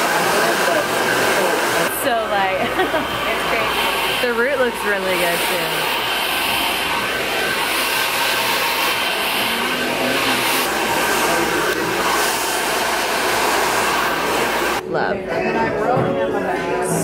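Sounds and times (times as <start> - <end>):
hair dryer running: 0.0 - 15.5.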